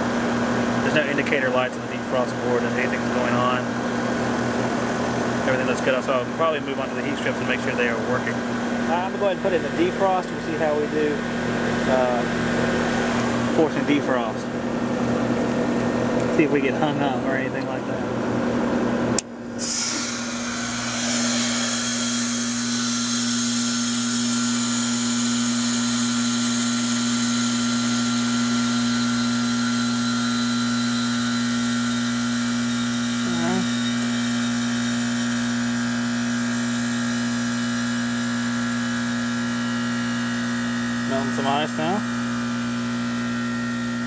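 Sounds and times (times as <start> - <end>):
heat pump compressor humming: 0.0 - 44.0.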